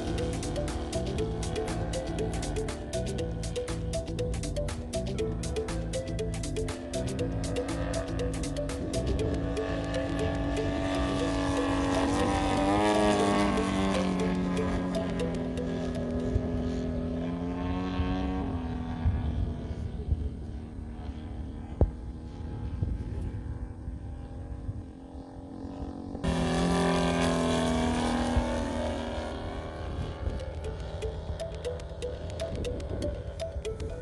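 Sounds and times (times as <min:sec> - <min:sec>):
model plane engine drone: 0:00.0 - 0:34.0.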